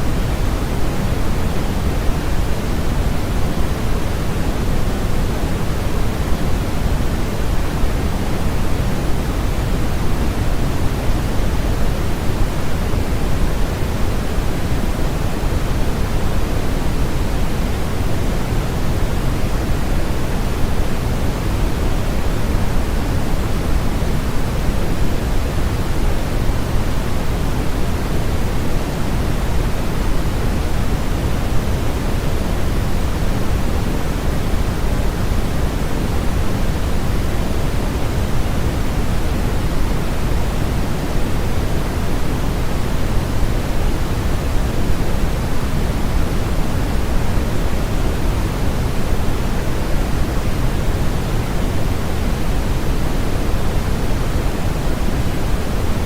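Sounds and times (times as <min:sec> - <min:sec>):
steady low hiss: 0:00.0 - 0:56.0.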